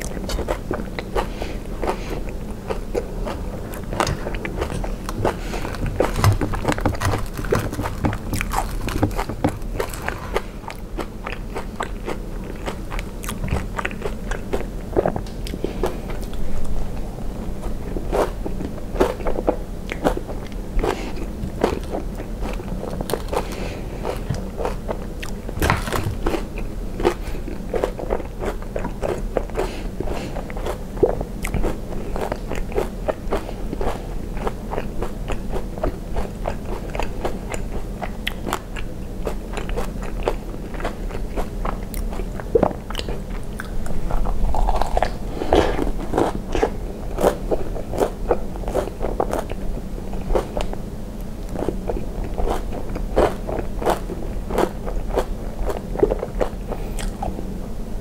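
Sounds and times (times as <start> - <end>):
crunching and chewing: 0.0 - 57.4.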